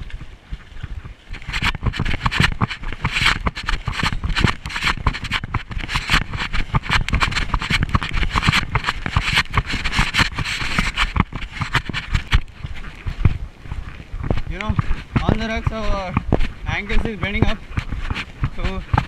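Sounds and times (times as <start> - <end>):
branches rustling against camera: 0.0 - 19.0
footsteps in undergrowth: 0.0 - 19.0
low microphone rumble: 0.0 - 19.0.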